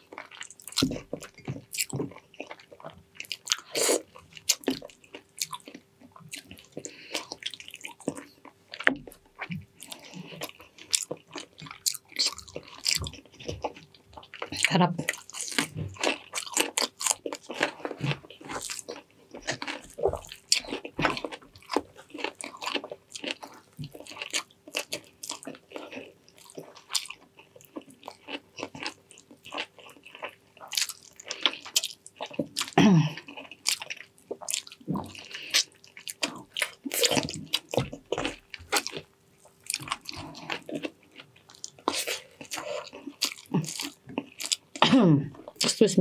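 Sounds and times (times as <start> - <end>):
wet chewing and squishing: 0.0 - 44.8.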